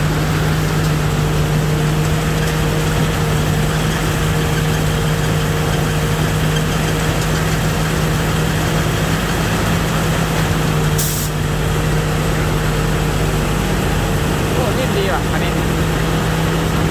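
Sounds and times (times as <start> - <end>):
combine harvester engine droning: 0.0 - 16.9.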